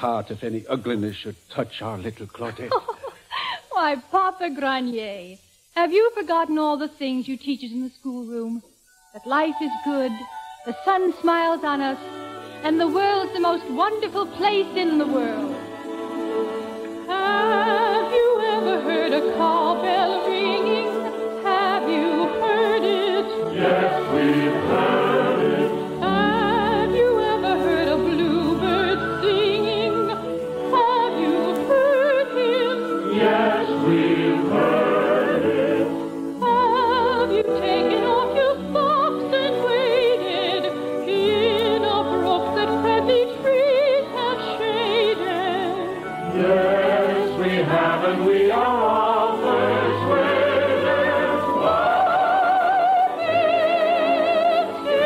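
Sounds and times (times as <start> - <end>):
choir and operatic voices singing: 9.2 - 55.0.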